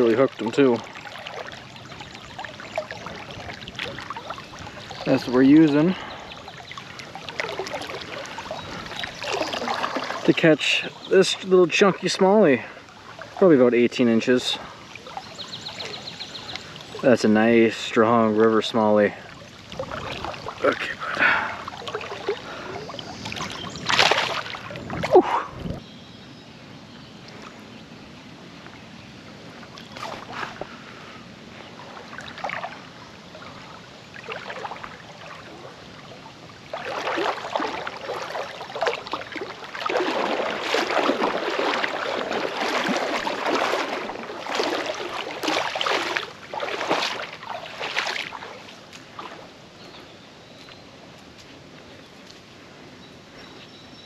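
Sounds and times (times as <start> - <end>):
water sloshing: 0.0 - 25.8, 28.6 - 50.7
water splashing: 0.0 - 25.8, 29.4 - 31.1, 31.8 - 49.6.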